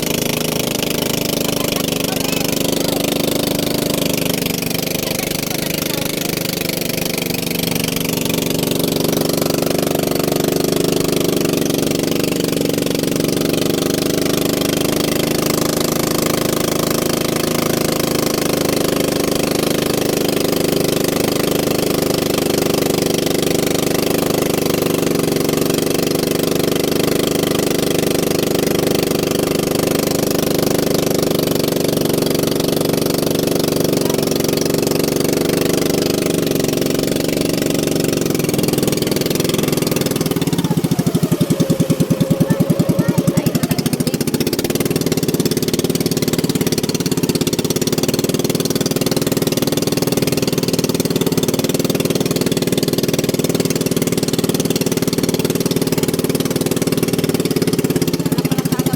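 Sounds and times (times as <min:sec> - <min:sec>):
boat engine droning: 0:00.0 - 0:58.9.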